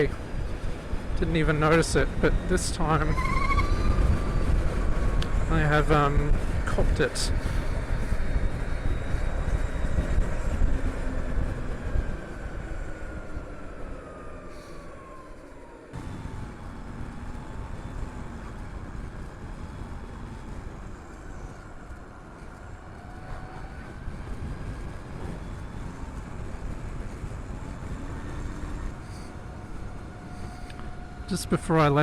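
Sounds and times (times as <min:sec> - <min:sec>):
wind rushing over microphone: 0:00.0 - 0:14.5, 0:16.0 - 0:32.0.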